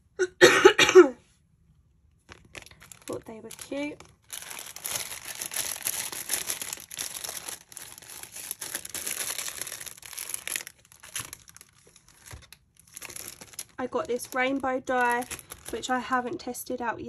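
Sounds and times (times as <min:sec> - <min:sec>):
plastic packets crinkling: 0:02.2 - 0:16.4.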